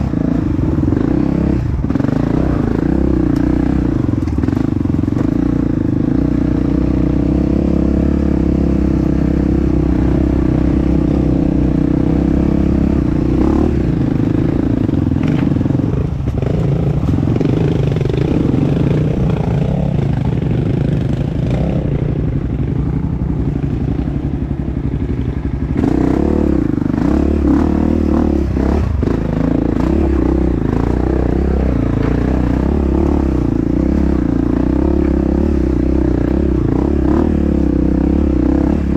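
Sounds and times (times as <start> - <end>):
dirt bike engine revving: 0.0 - 23.8, 25.6 - 38.9.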